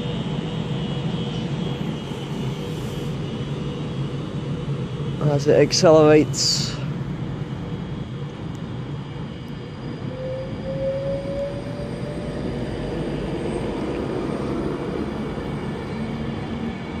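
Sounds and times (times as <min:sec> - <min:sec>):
diesel train accelerating: 0:00.0 - 0:17.0.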